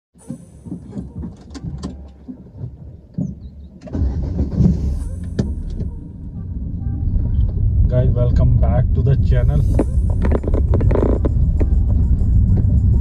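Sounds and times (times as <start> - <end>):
car cabin engine and road rumble: 0.2 - 13.0.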